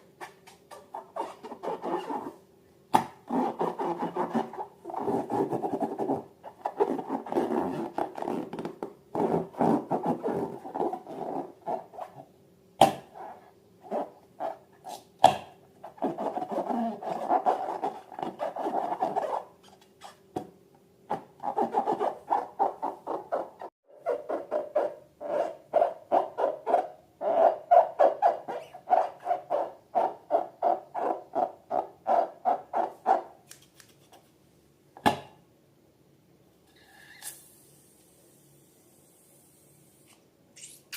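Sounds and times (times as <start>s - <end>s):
faint steady hum: 0.0s - 23.7s, 24.7s - 40.9s.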